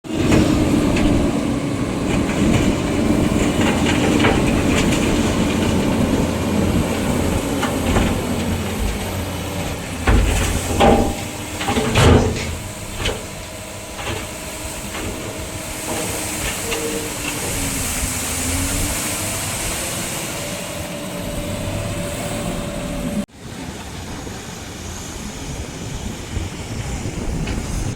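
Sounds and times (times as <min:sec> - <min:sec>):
excavator and truck engines: 0:00.0 - 0:27.9
soil loaded into truck bed clunks: 0:00.1 - 0:22.9.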